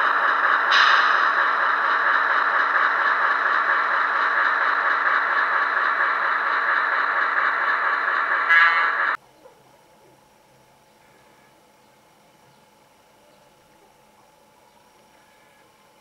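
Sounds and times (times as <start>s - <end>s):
diesel engine sound through small speaker: 0.0s - 16.0s.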